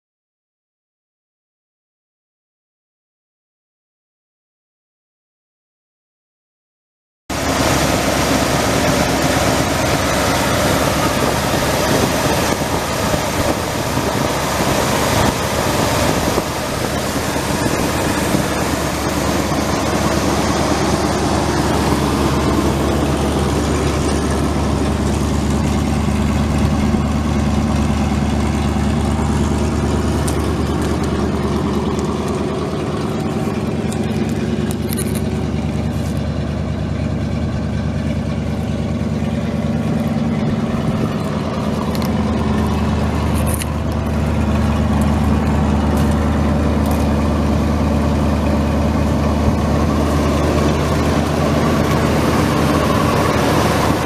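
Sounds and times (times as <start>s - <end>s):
truck engine starting and idling: 7.3s - 54.0s.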